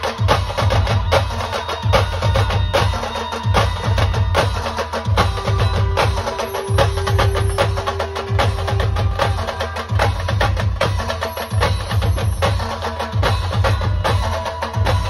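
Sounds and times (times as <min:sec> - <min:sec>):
heavy low drum beats: 0:00.0 - 0:15.0
rapid sharp drum strokes: 0:00.0 - 0:15.0.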